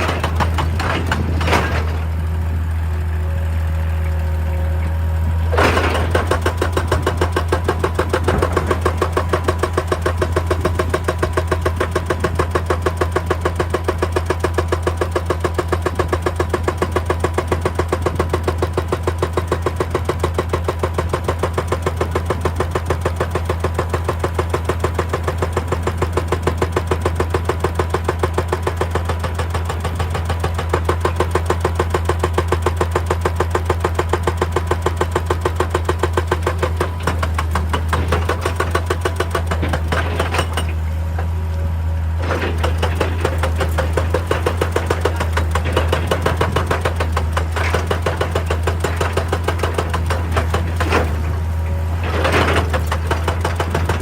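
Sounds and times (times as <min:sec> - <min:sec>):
hydraulic breaker hammering rock: 0:00.0 - 0:02.6, 0:04.4 - 0:54.0
diesel engine running: 0:00.0 - 0:54.0.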